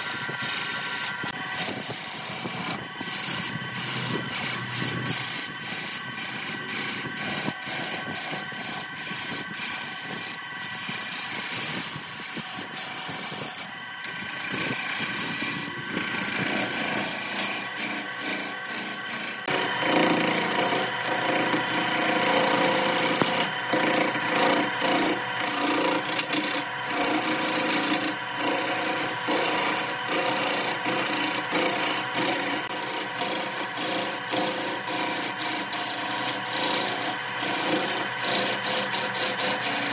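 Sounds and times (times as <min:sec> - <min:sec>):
gouge scraping spinning wood: 0:00.0 - 0:39.9
wood lathe whine: 0:00.0 - 0:39.9.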